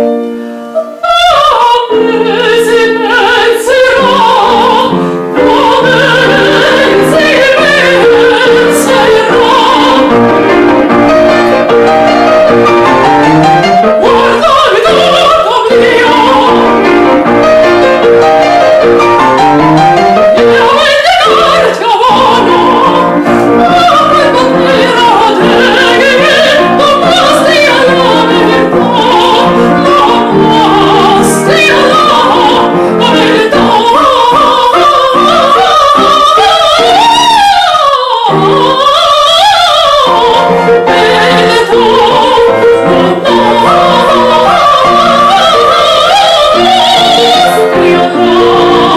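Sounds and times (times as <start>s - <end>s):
piano accompaniment: 0.0s - 48.9s
operatic singing: 0.8s - 48.9s.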